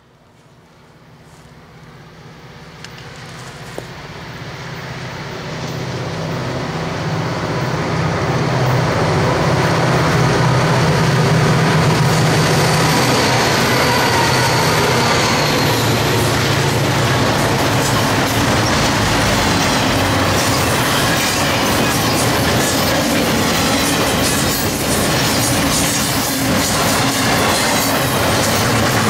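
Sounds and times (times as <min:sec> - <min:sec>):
diesel locomotives passing: 0:00.0 - 0:29.0.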